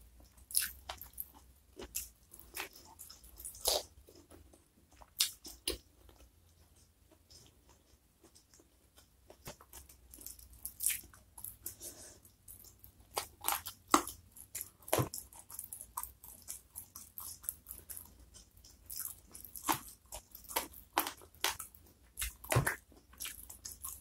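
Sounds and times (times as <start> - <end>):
crunchy chewing mouth sounds: 0.2 - 24.0.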